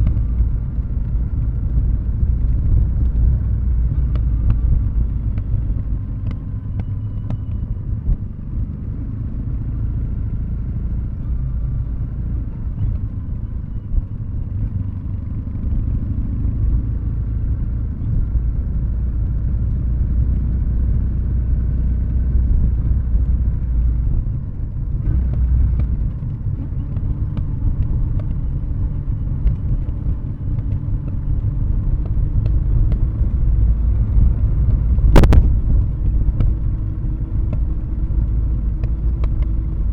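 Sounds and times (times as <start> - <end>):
motorcycle exhaust rumble: 0.0 - 39.9.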